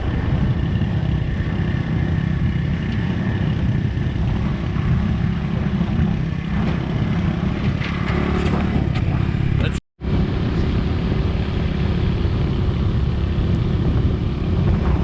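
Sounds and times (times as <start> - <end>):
motorbike engine: 0.0 - 15.0
road noise: 0.0 - 15.0
wind rumbling on microphone: 0.0 - 15.0.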